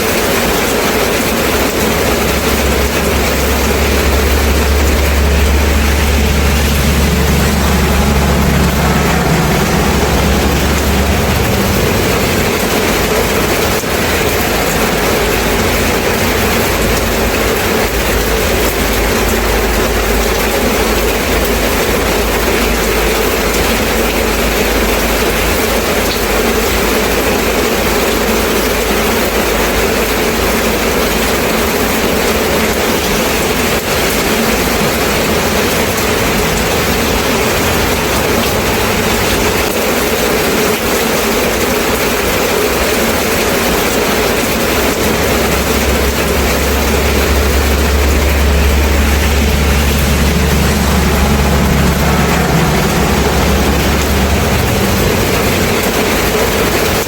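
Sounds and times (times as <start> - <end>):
steady rain hiss: 0.0 - 57.0
low rumble: 0.8 - 26.8, 31.6 - 41.7, 42.8 - 57.0.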